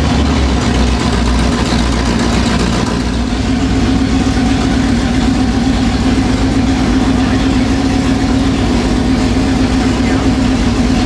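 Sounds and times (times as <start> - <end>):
tank engines idling: 0.0 - 11.0.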